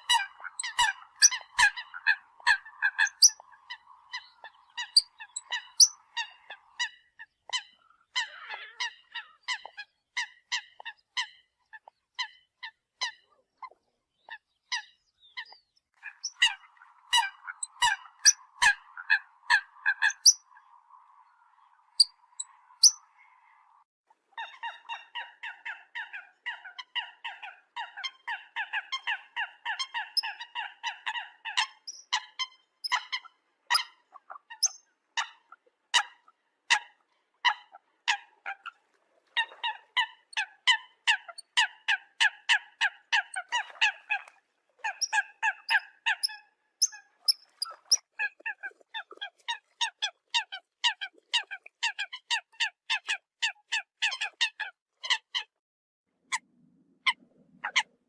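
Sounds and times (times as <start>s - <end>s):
coots calling: 0.0s - 13.8s, 14.4s - 23.7s, 24.4s - 55.5s.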